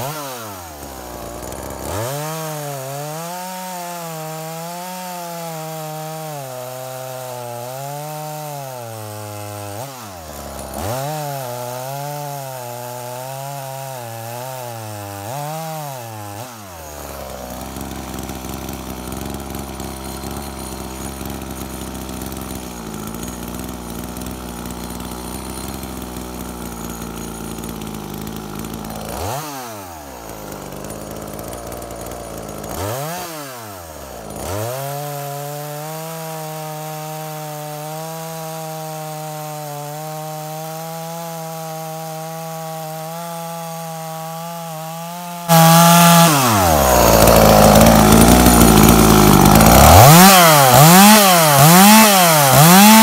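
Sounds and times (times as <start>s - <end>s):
chainsaw cutting wood: 0.0s - 53.0s
chainsaw engine running: 0.0s - 53.0s.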